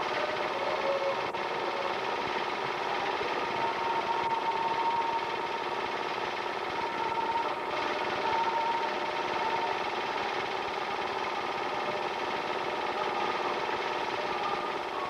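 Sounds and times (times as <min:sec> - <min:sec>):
film projector whirring and clattering: 0:00.0 - 0:15.0.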